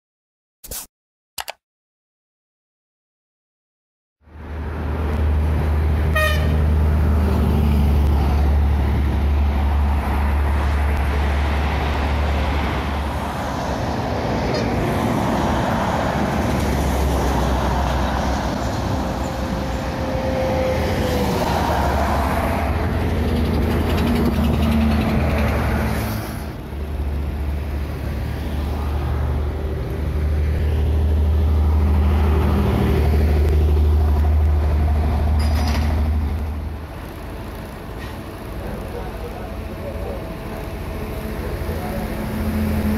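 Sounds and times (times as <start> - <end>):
heavy truck rumbling: 4.4 - 42.9.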